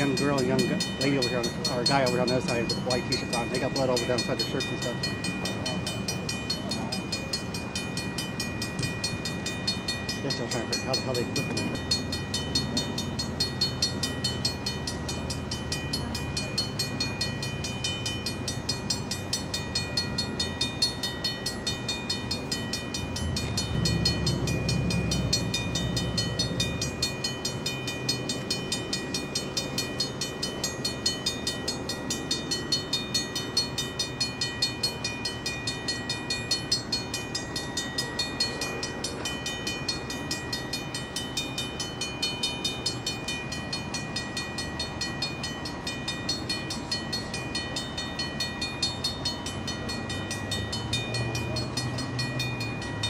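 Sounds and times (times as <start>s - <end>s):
railroad crossing bell ringing: 0.0s - 53.0s.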